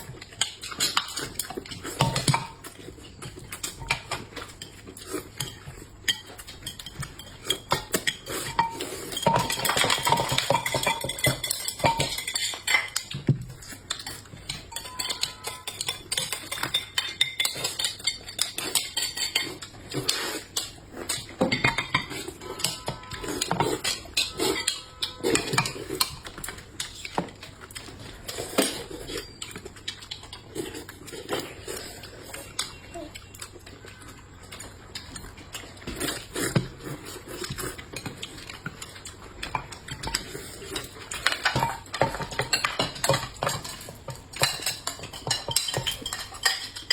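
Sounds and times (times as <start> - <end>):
utensils clinking on plates: 0.0 - 46.9.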